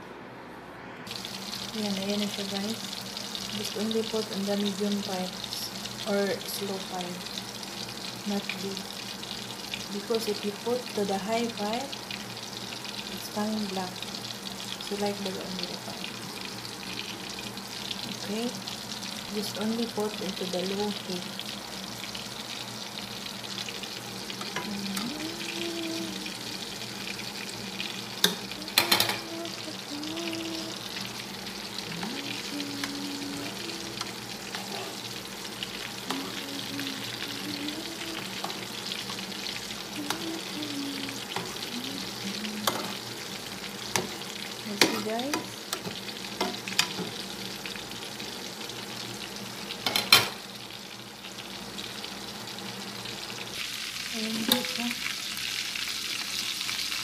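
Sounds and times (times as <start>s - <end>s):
shrimp frying in oil: 1.1s - 57.0s.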